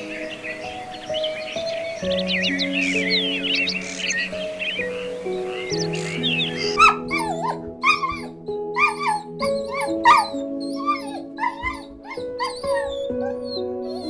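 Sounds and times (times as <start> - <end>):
animal yelping: 0.0 - 14.0
soft background music: 0.0 - 14.0.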